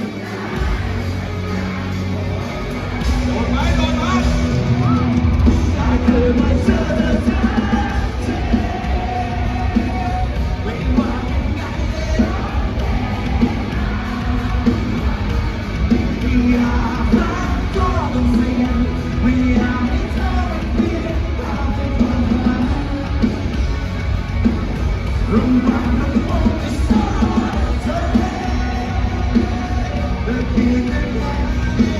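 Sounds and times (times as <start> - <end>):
live rock band playing: 0.0 - 31.9.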